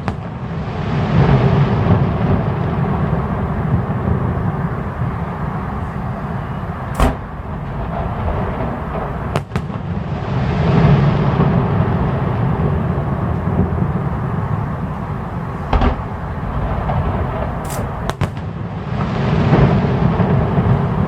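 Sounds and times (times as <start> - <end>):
firework bangs: 0.0 - 21.0
fireworks low rumble: 0.0 - 21.0.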